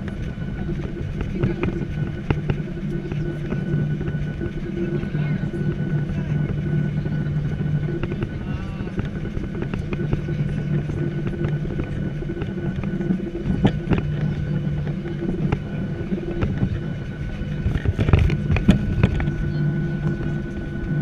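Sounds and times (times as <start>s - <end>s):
aircraft engines droning: 0.0s - 21.0s
constant humming tones: 0.0s - 21.0s.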